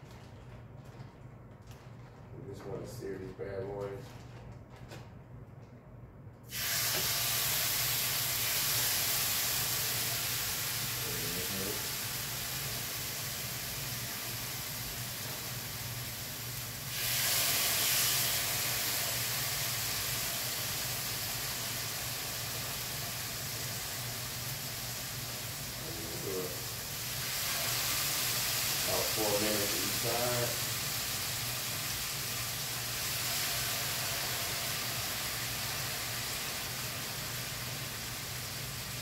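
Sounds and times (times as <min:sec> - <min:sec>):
meat sizzling in a hot pan: 0:06.5 - 0:39.0.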